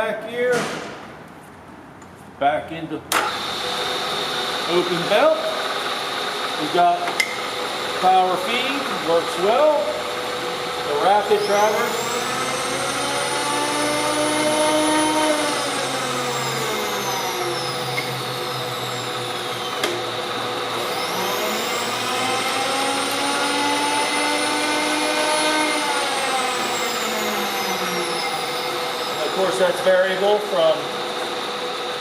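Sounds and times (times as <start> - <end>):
power feed motor whining: 3.1 - 32.0.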